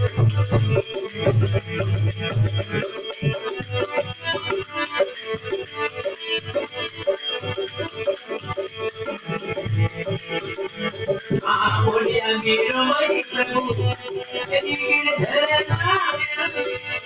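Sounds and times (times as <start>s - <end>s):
held harmonium tones: 0.0s - 17.0s
rattling hand percussion: 0.0s - 17.0s.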